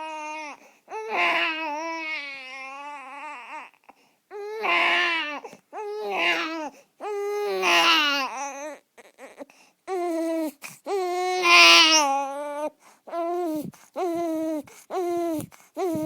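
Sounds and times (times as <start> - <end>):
infant crying: 0.0 - 16.0.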